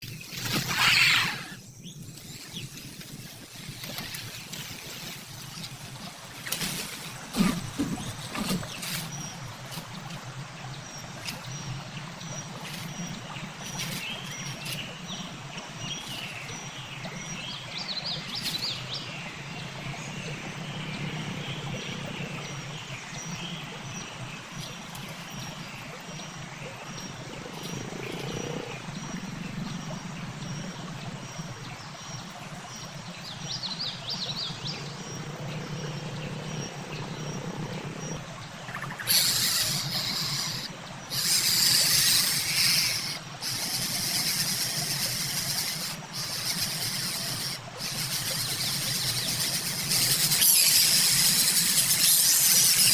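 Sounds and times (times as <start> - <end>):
low hum of wild animals: 0.0 - 52.9.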